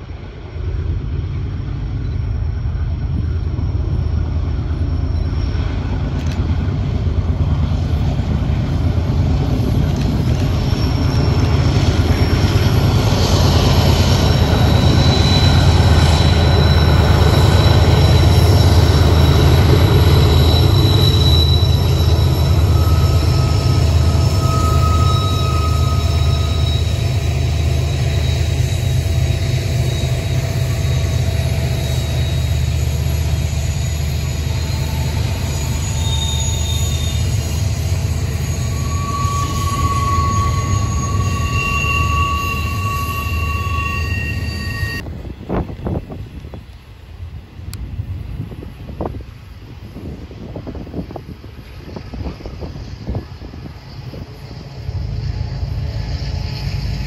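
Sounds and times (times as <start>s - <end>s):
diesel locomotives rumbling: 0.0s - 57.0s
wheel flanges squealing on rail: 0.6s - 47.3s, 48.3s - 57.0s.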